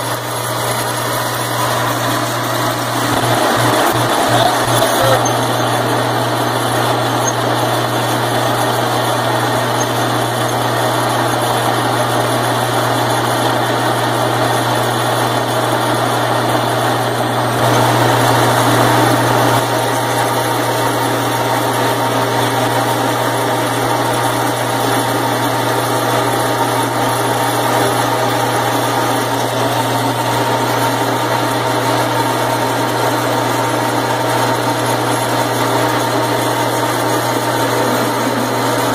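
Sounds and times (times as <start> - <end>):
cutter boring through steel: 0.0 - 38.9
drilling machine motor hum: 0.0 - 38.9.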